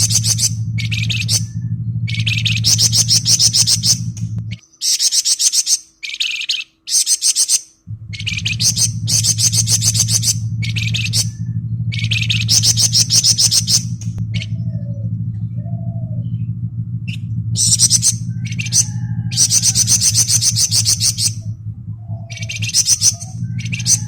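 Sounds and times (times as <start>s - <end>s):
steady low hum: 0.0s - 4.7s, 7.7s - 24.0s
songbird trilling: 0.0s - 24.0s.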